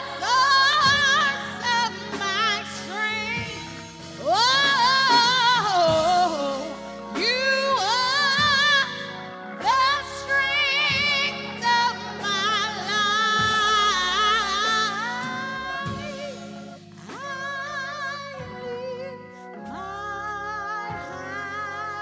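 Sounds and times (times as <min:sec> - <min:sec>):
low instrumental accompaniment: 0:00.0 - 0:22.0
woman singing into a microphone: 0:00.0 - 0:22.0.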